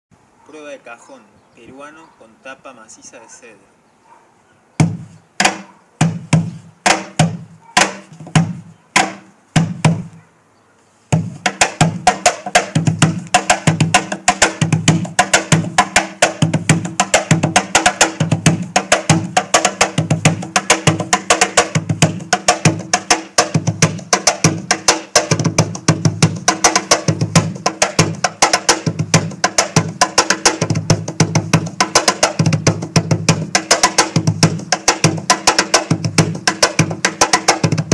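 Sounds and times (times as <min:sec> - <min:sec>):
cajon played by hand: 0:04.8 - 0:10.2, 0:11.1 - 0:37.9.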